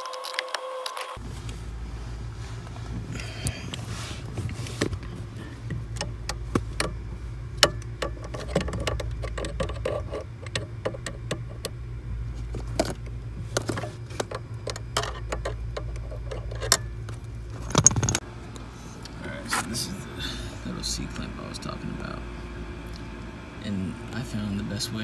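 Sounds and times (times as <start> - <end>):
steady low hum: 1.1 - 25.0.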